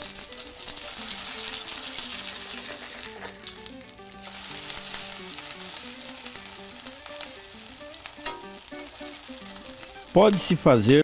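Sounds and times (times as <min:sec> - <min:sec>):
fritters sizzling in hot oil: 0:00.0 - 0:10.9.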